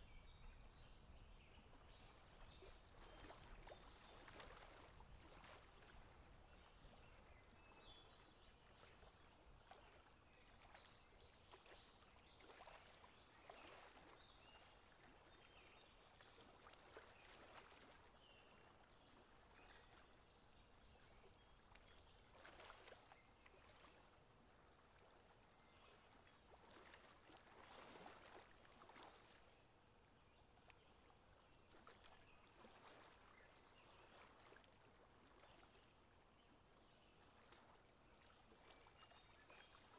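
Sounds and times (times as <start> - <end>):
faint river ambience: 0.0 - 39.9
soft water sounds: 0.0 - 39.9.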